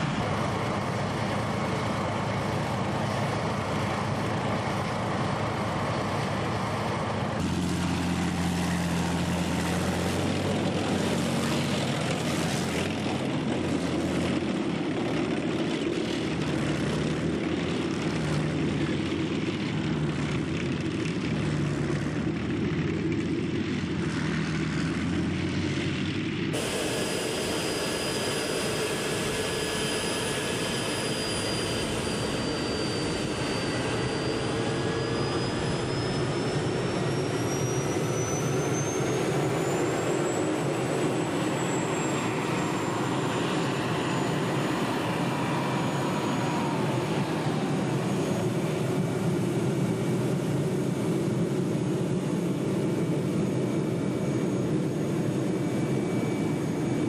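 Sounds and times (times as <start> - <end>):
jet engine whine: 0.0 - 57.0.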